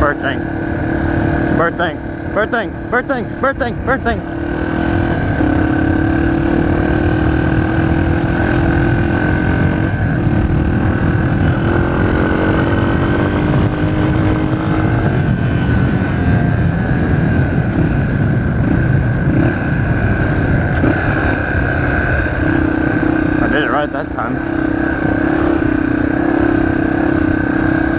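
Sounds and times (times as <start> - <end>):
dirt bike engine running: 0.0 - 27.9.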